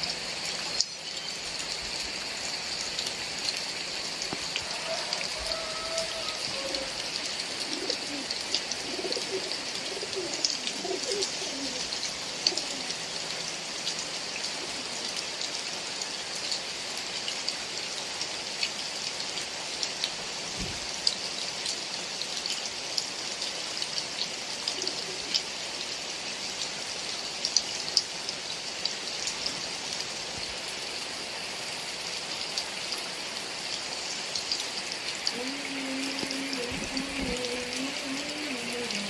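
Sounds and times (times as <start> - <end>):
heavy rain: 0.0 - 39.0
raindrops ticking on a surface: 0.0 - 39.0.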